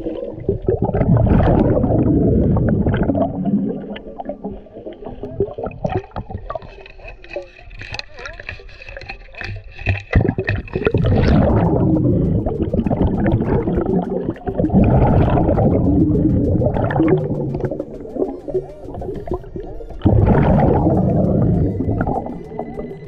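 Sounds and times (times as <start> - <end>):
underwater exhaled air bubbling: 0.0 - 6.9, 10.0 - 23.0.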